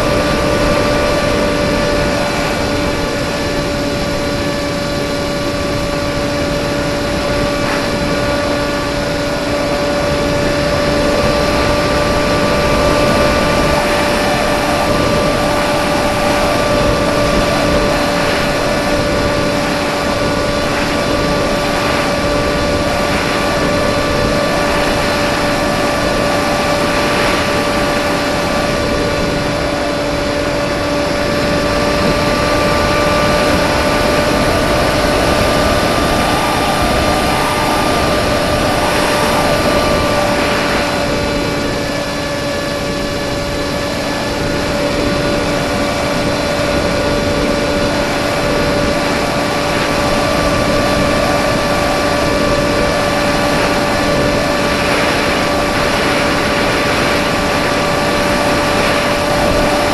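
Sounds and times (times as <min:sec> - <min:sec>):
model plane motor drone: 0:00.0 - 0:59.9
rush of air: 0:00.0 - 0:59.9.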